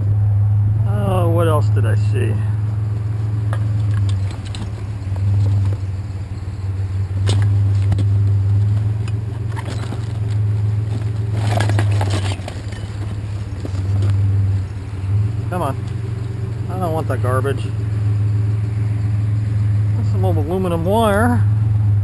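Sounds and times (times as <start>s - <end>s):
truck engine droning: 0.0s - 22.0s
rattling or scraping: 2.0s - 21.6s.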